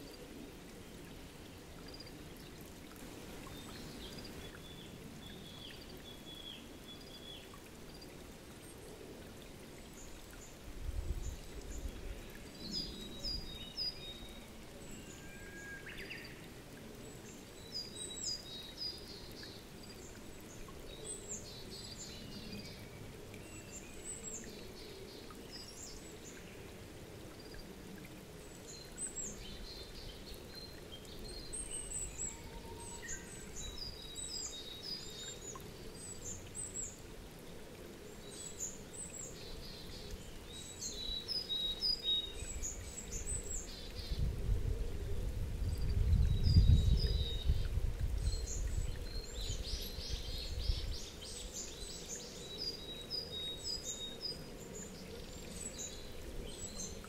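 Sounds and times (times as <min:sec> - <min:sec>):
low background noise: 0:00.0 - 0:57.0.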